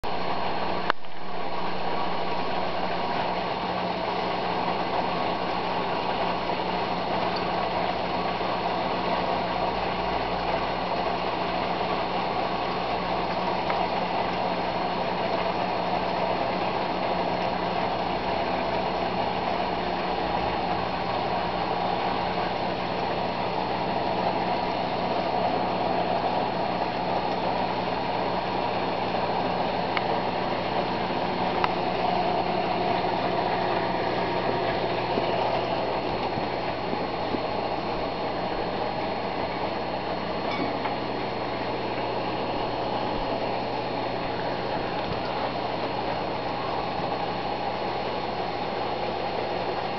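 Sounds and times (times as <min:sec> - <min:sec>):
filter pump humming: 0:00.0 - 0:49.9.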